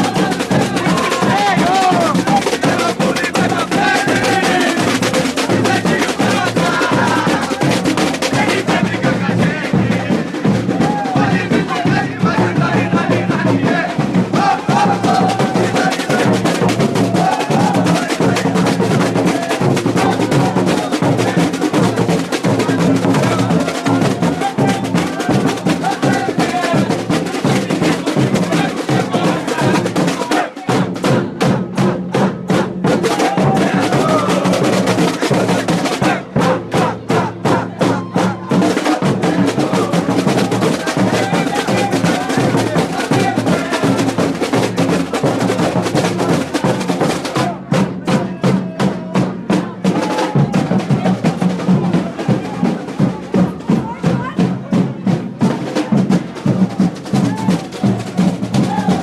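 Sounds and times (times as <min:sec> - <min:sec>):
street percussion band drumming: 0:00.0 - 0:59.0.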